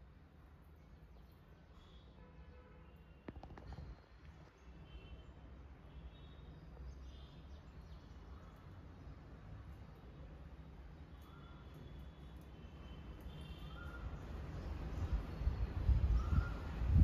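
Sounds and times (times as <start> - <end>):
parakeets chirping softly: 2.8 - 16.7.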